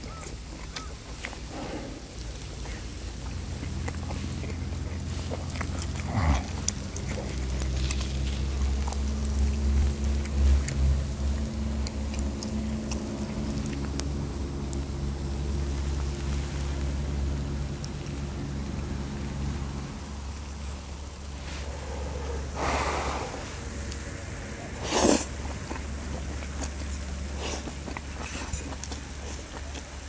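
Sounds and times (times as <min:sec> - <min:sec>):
chewing: 0:00.0 - 0:30.0
low engine-like drone: 0:00.0 - 0:30.0.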